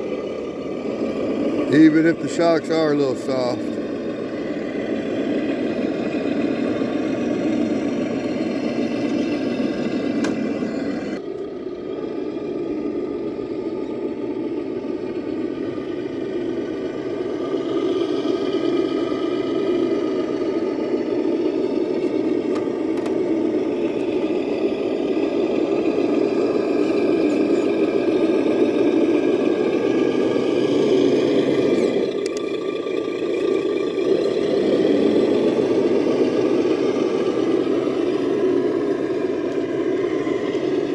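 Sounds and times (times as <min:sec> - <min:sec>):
electric motor and gears whine: 0:00.0 - 0:40.9.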